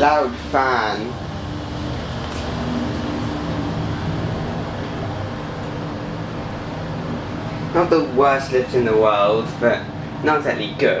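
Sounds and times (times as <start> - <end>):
ventilation fan whirring: 0.0 - 11.0.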